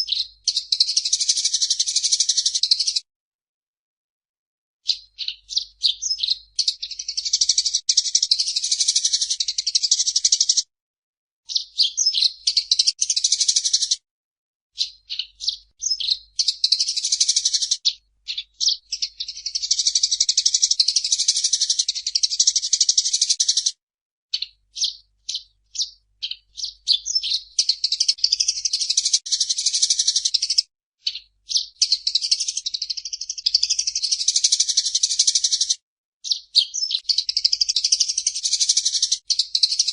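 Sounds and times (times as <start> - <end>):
sparrow chattering: 0.0 - 3.0, 4.9 - 10.6, 11.5 - 14.0, 14.8 - 23.7, 24.3 - 39.9.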